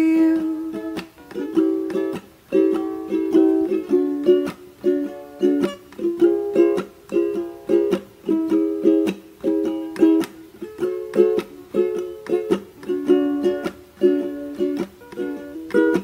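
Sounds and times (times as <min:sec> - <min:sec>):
plucked string instrument chords: 0:00.0 - 0:16.0.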